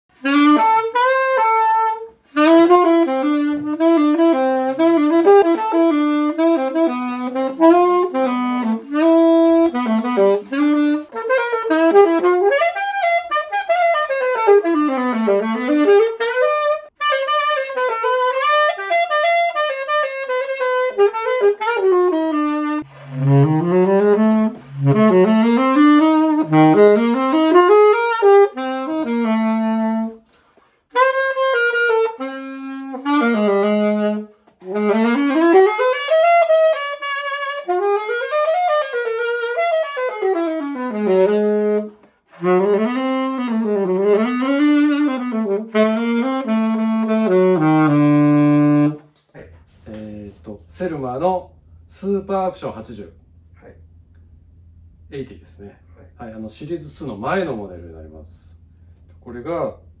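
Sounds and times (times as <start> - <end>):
solo alto saxophone melody: 0.1 - 49.2.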